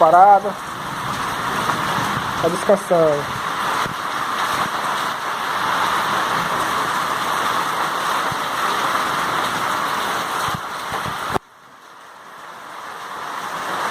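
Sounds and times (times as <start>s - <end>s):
heavy rain: 0.0s - 13.9s.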